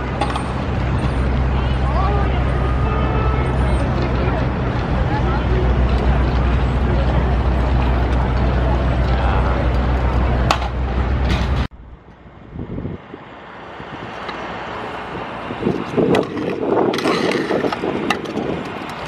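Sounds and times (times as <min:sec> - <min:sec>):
scooter wheels rolling on concrete: 0:00.0 - 0:12.2, 0:12.9 - 0:19.0
city noise: 0:00.0 - 0:19.0.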